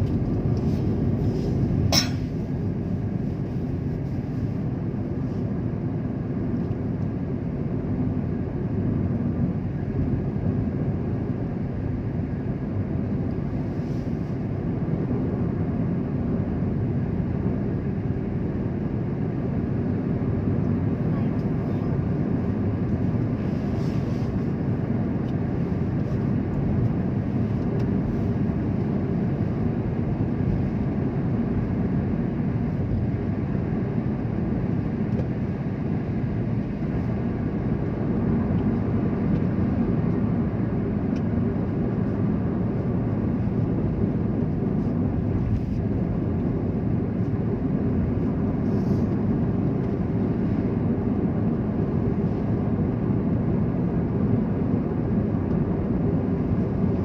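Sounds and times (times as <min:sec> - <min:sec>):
vehicle road and engine rumble: 0:00.0 - 0:57.0.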